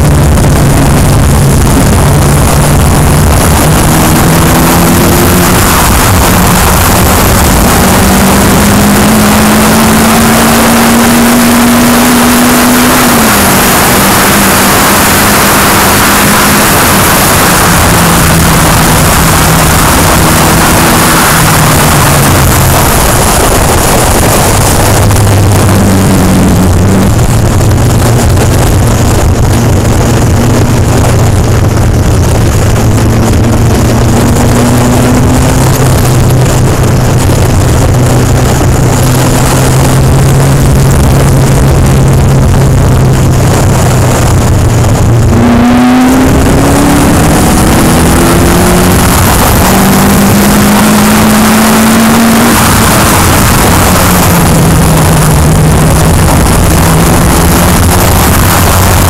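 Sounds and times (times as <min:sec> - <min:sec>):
race car engine: 0:00.0 - 0:59.0
wind rush on microphone: 0:00.0 - 0:59.0.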